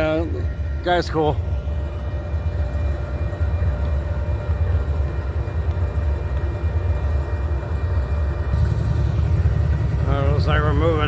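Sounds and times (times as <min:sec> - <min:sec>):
diesel locomotive idling: 0:00.0 - 0:11.0.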